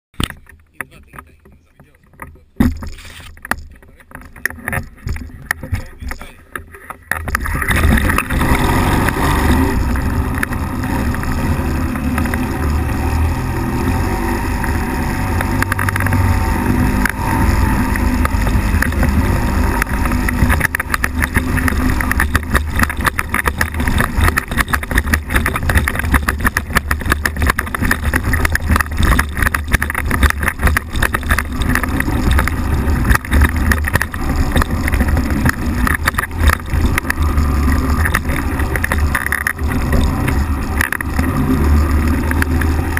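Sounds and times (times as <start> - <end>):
microlight engine and propeller: 0.2 - 42.9.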